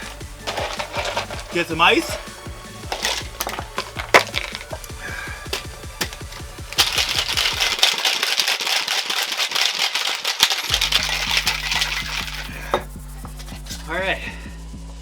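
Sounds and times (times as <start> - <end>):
background music with beat: 0.0 - 7.9, 10.7 - 15.0
ice rattling in cocktail shaker: 0.0 - 13.8.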